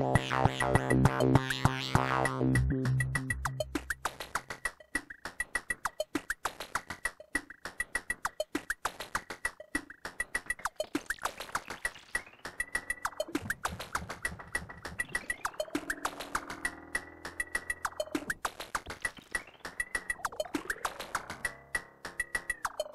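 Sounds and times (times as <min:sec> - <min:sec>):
electronic percussion pattern: 0:00.0 - 0:22.9.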